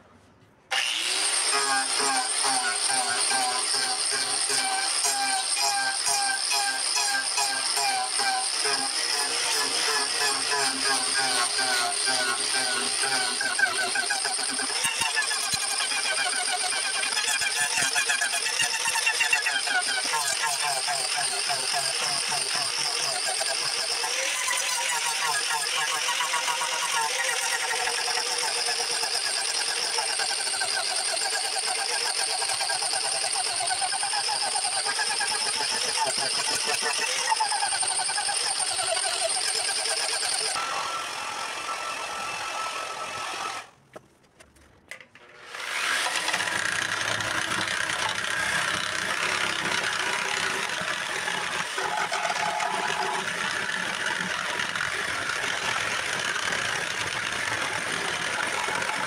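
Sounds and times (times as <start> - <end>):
larger angle grinder grinding wood: 0.7 - 43.7, 45.2 - 59.0
angle grinder carving wood: 0.7 - 43.8, 45.2 - 59.0.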